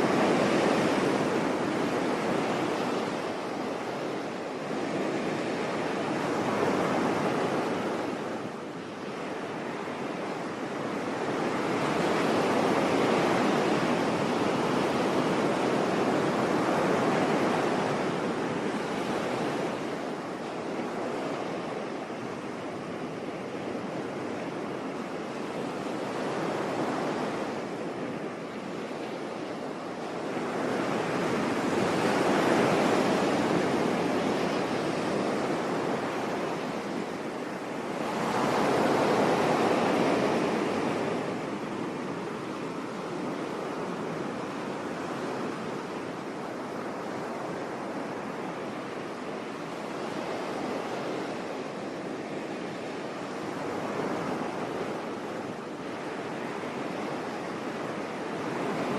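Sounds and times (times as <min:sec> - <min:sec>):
sea waves washing onto shore: 0:00.0 - 0:58.9.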